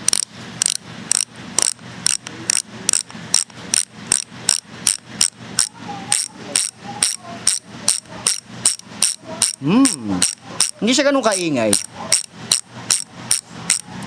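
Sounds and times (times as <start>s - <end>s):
bicycle freehub clicking: 0.0s - 10.9s, 11.7s - 14.0s.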